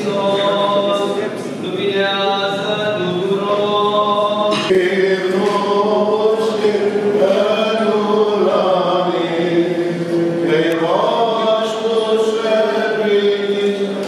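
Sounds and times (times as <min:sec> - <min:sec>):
voices chanting: 0:00.0 - 0:14.0.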